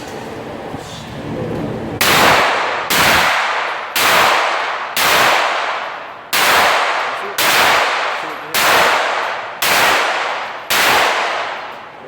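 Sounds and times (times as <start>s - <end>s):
gunshots with echo: 2.0s - 12.0s.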